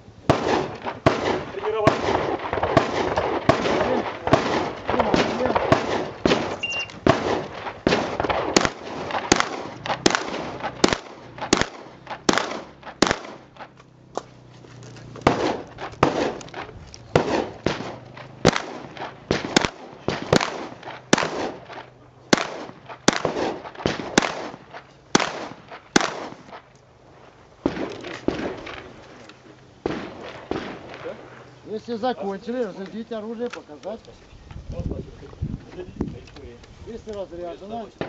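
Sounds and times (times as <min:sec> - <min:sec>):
shotgun shots: 0:00.2 - 0:14.3, 0:15.0 - 0:29.2, 0:29.8 - 0:33.4.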